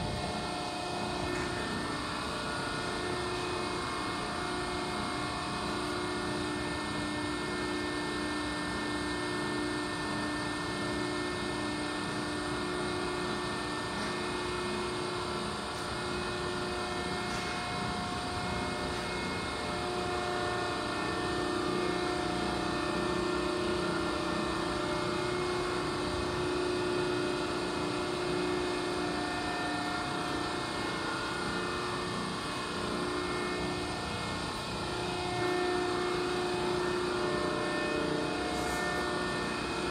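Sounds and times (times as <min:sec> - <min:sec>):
hydraulic press machine hum: 0:00.0 - 0:39.9.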